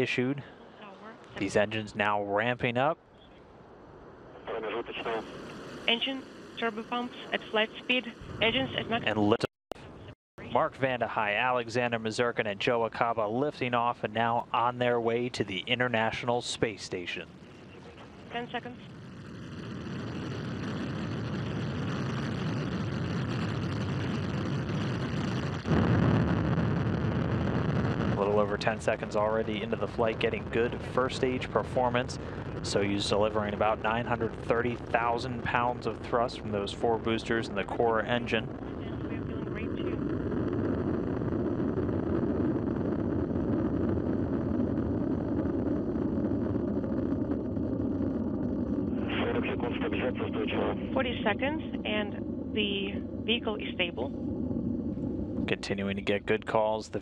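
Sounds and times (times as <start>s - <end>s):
rocket engines rumbling: 0.0s - 57.0s.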